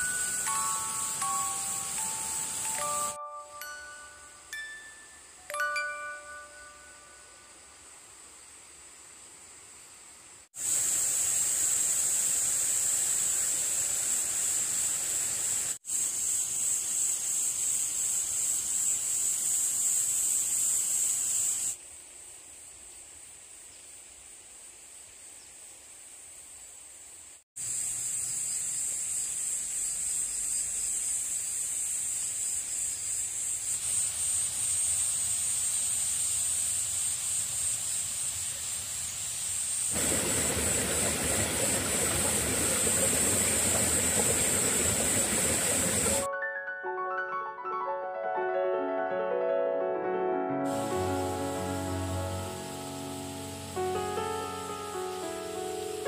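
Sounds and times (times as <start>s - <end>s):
insects trilling: 0.0s - 46.3s, 50.7s - 56.0s.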